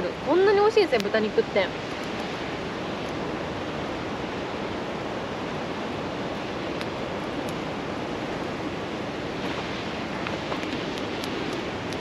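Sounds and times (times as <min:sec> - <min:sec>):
faint campfire crackles: 0:00.0 - 0:12.0
river rushing: 0:00.0 - 0:12.0.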